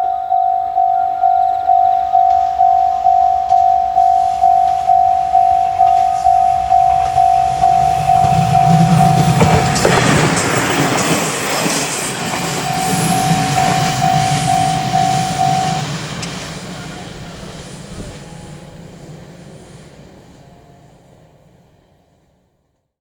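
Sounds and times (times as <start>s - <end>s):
crossing warning bell dinging: 0.0s - 22.0s
train rumbling past: 0.0s - 22.8s.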